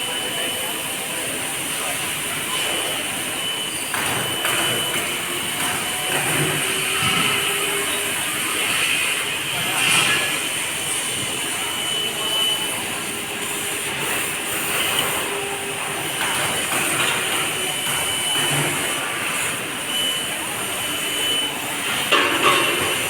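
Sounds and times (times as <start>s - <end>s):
laser cutter gas hiss: 0.0s - 23.0s.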